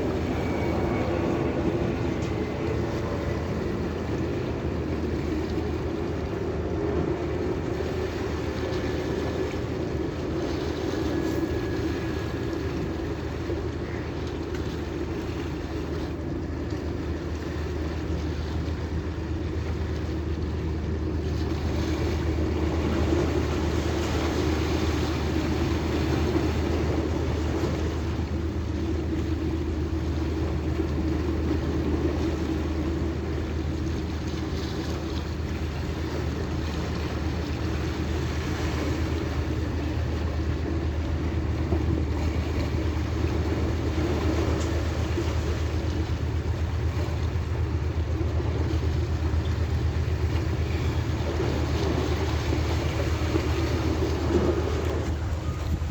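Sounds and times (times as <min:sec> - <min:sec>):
boat engine drone: 0:00.0 - 0:55.9
water noise: 0:00.0 - 0:55.9
wind: 0:00.0 - 0:55.9.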